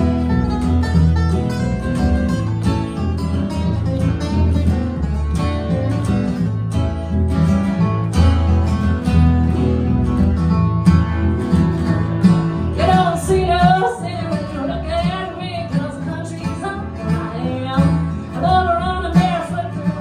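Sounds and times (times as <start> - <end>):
steady bass line: 0.0 - 20.0
strummed acoustic guitar: 0.0 - 20.0.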